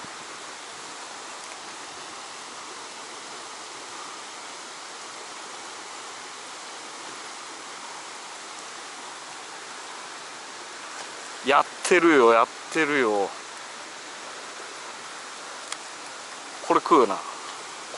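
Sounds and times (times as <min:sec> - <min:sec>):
water rushing through rock channel: 0:00.0 - 0:17.9.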